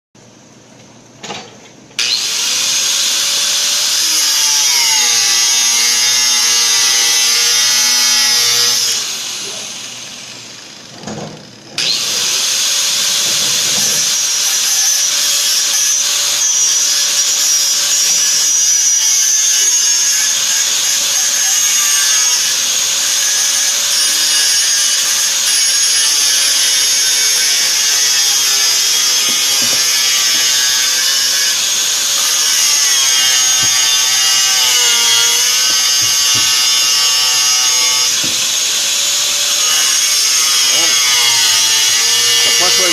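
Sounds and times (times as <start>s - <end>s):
angle grinder cutting metal: 2.0s - 10.9s, 11.8s - 42.9s.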